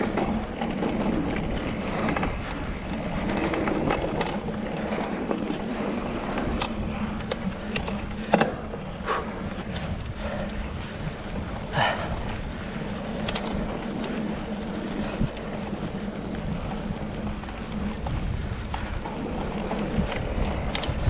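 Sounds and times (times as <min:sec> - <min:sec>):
bike rattling over bumps: 0:00.0 - 0:21.0.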